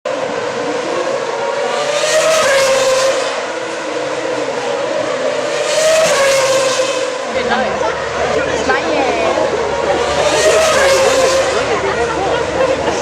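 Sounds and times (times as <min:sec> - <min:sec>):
racing car engines at high revs: 0:00.1 - 0:13.0.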